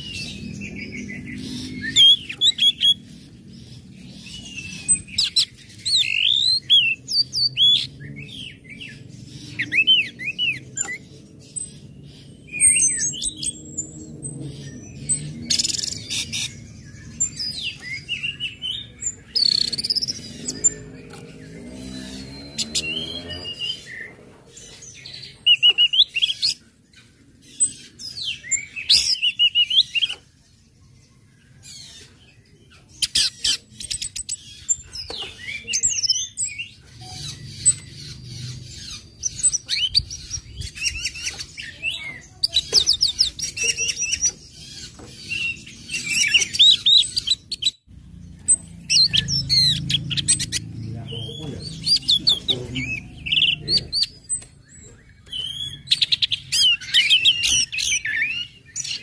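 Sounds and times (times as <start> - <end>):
thrush singing chirps and trills: 0.0 - 59.0.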